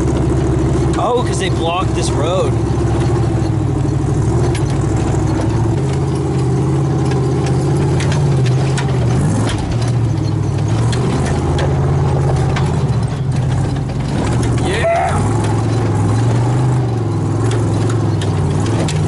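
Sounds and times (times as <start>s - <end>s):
engine running at low revs: 0.0s - 19.0s
knocks and rattles: 0.0s - 19.0s.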